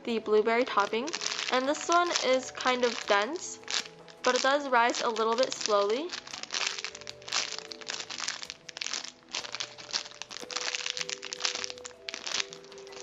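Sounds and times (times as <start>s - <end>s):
plastic packaging crinkling: 0.5s - 13.0s.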